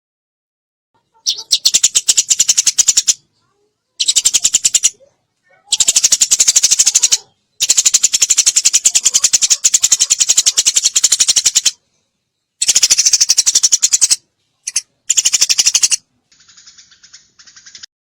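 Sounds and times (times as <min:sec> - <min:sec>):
soft bird chatter: 0:01.0 - 0:17.9
sparrow chirping bursts: 0:01.1 - 0:03.3, 0:04.0 - 0:05.0, 0:05.7 - 0:11.8, 0:12.6 - 0:17.9.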